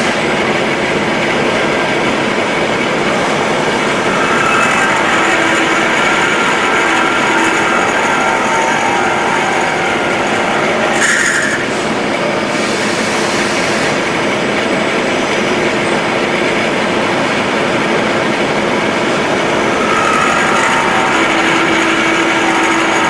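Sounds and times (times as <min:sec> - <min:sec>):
milling machine running: 0:00.0 - 0:23.0.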